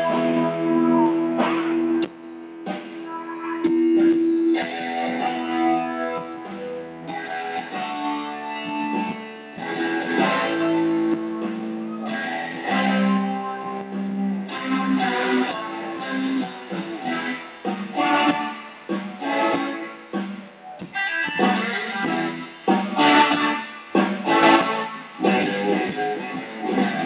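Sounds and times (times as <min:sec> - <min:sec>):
guitar chords: 0:00.0 - 0:27.0
live band playing: 0:00.0 - 0:27.0.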